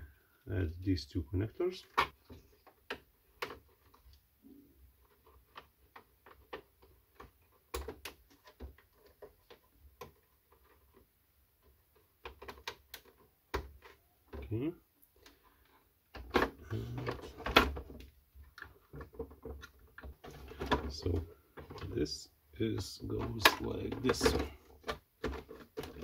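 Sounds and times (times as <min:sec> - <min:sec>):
clicks of plastic parts and connectors: 0:01.8 - 0:04.2, 0:05.0 - 0:22.0, 0:22.7 - 0:26.0.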